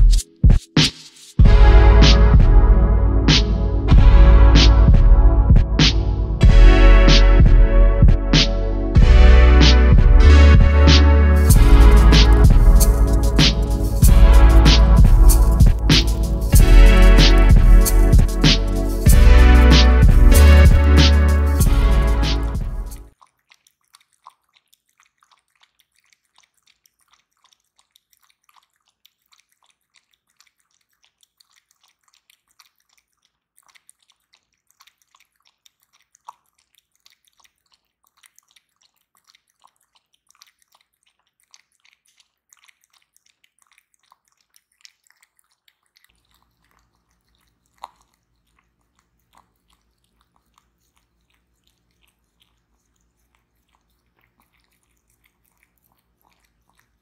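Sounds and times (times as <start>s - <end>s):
dog lapping milk: 6.4s - 57.0s.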